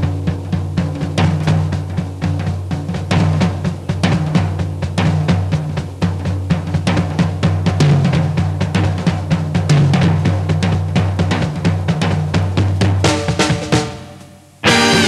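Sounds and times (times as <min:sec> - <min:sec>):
fast drum-kit beat: 0:00.0 - 0:15.0.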